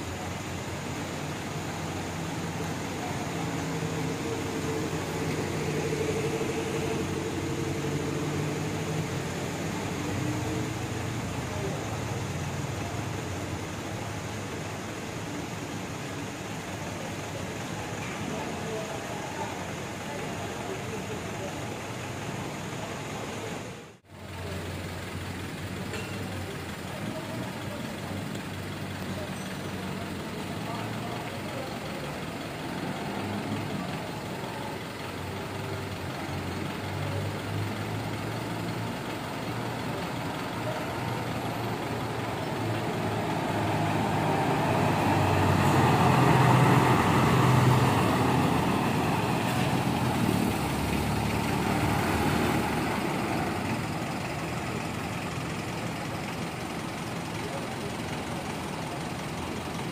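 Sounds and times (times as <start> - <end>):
diesel coach engine humming: 0.0 - 59.9
terminal bustle: 0.0 - 59.9.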